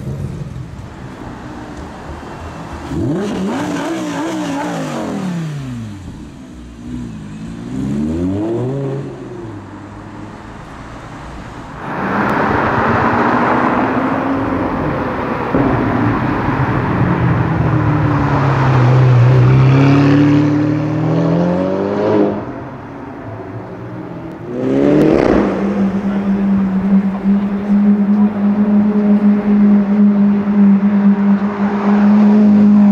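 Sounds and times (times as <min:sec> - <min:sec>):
car engines revving: 0:00.0 - 0:32.9
car pulling away: 0:00.0 - 0:32.9.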